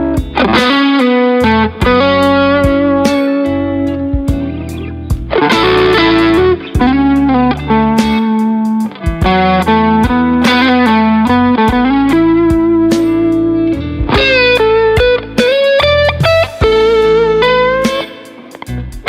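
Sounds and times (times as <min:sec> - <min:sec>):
backing track with drums and bass: 0:00.0 - 0:19.0
electric guitar lead melody: 0:00.0 - 0:19.0.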